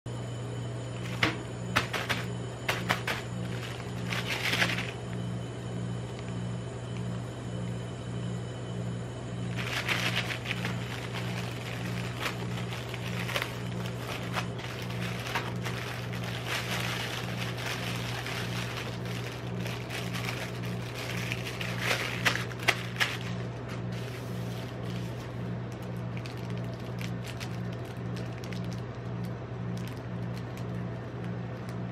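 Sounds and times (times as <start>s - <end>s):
refrigeration unit hum: 0.1s - 31.9s
plastic wrappers crinkling: 1.0s - 5.0s, 9.5s - 31.9s.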